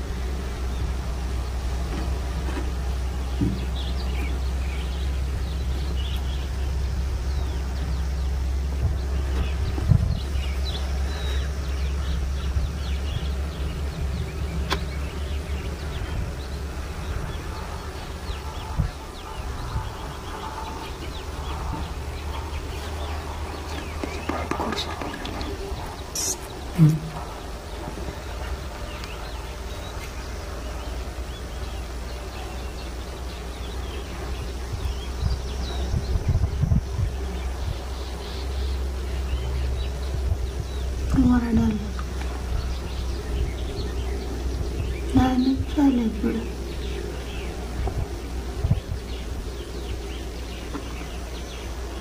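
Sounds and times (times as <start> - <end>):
birds chirping: 0.0 - 52.0
steady low rumble: 0.0 - 52.0.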